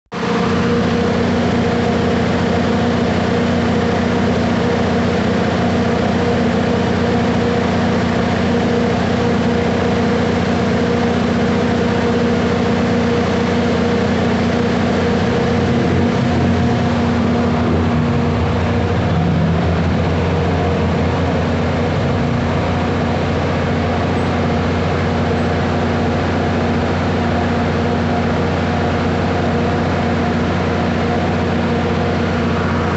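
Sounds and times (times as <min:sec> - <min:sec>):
diesel generator engine drone: 0:00.1 - 0:32.9.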